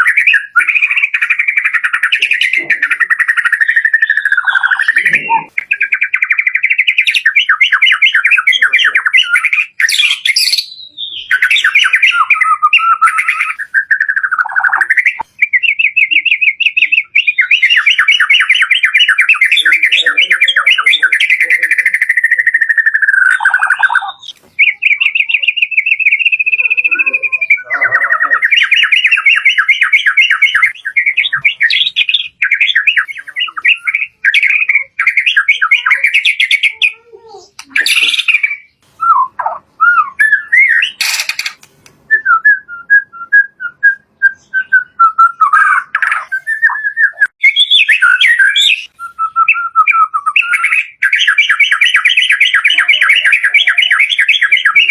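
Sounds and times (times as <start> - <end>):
bird singing trills and whistles: 0.0 - 54.9.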